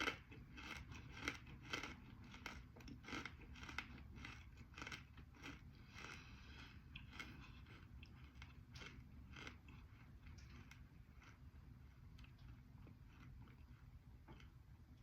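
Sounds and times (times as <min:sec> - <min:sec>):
chewing with dry crunches: 0:00.0 - 0:15.0.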